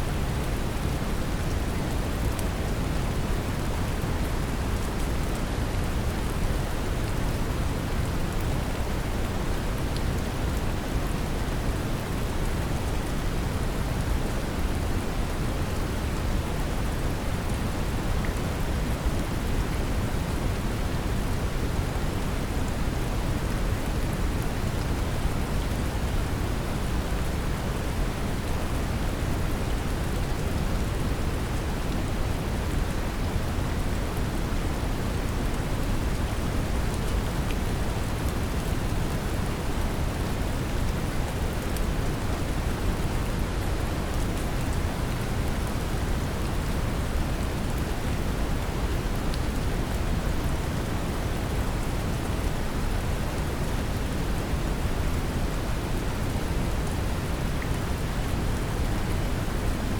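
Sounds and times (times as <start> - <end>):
gentle rain: 0.0 - 59.9.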